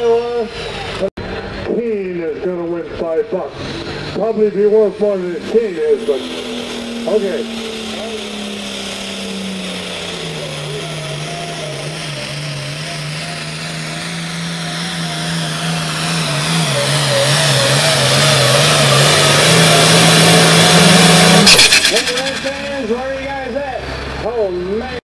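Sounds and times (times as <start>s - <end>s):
tractor diesel engine at full load: 0.0s - 25.0s.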